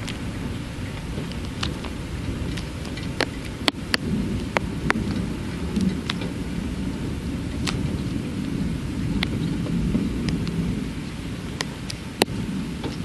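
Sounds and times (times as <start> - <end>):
rain: 0.0 - 13.0
rumble of thunder: 0.0 - 13.0.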